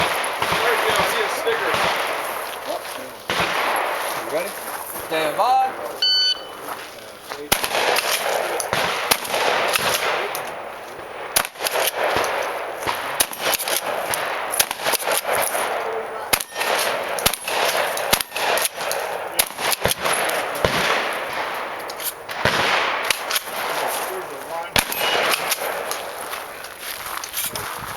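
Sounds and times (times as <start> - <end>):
shotgun shots: 0.0 - 5.8, 7.4 - 27.0.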